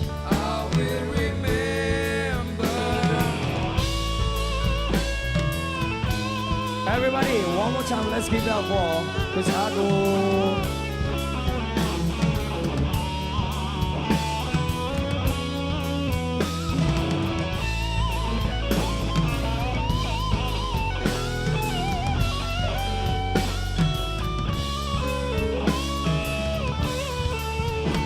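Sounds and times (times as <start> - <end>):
bass guitar: 0.0 - 28.0
drum kit steady beat: 0.0 - 28.0
electric guitar lead: 0.0 - 28.0.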